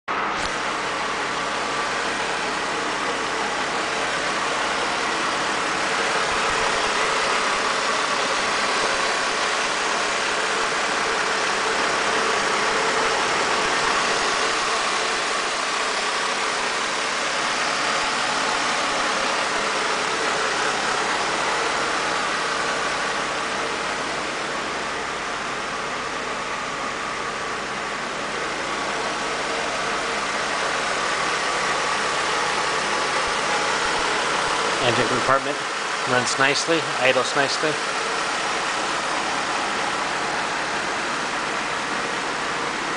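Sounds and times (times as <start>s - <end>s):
car engine idling: 0.1s - 42.9s.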